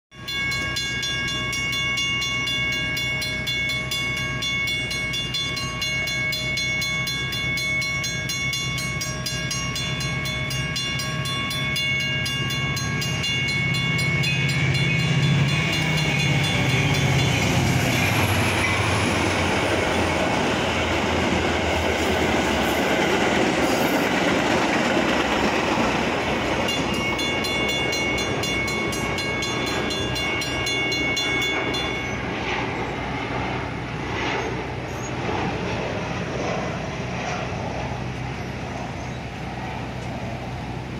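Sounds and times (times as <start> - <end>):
crossing bell ringing: 0.1 - 36.5
train rumble: 0.2 - 40.9
train wheels on rails: 0.2 - 40.9.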